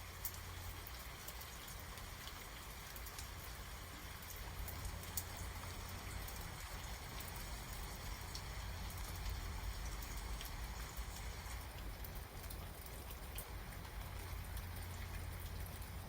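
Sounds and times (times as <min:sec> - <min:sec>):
raindrops ticking close by: 0:00.0 - 0:16.0
steady rain: 0:00.0 - 0:16.0.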